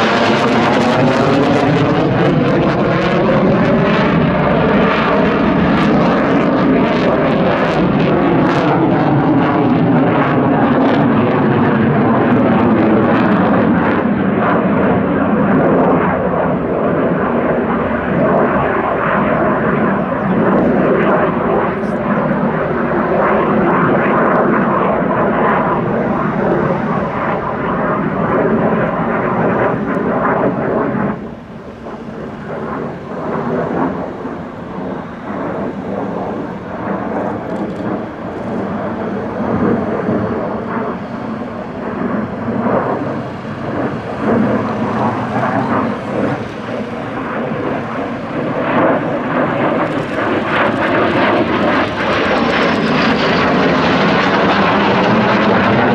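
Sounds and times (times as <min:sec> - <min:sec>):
jet flying overhead: 0:00.0 - 0:55.9.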